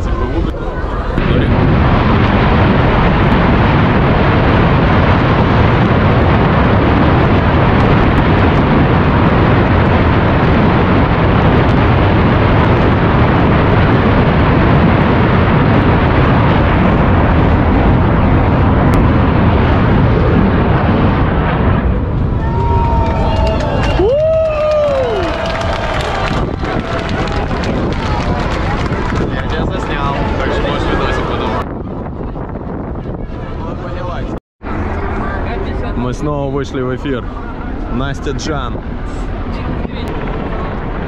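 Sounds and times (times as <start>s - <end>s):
jet aircraft roaring overhead: 0.0s - 41.0s.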